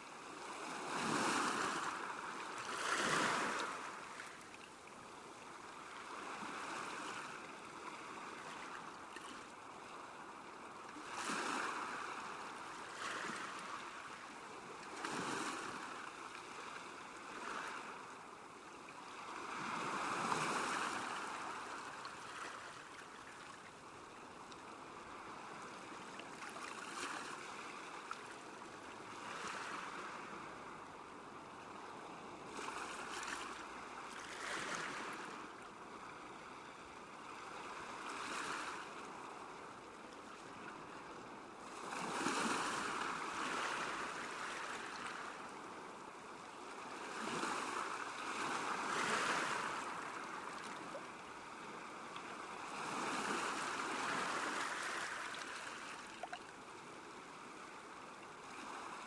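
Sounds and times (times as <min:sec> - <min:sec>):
waves lapping at shore: 0:00.0 - 0:59.0.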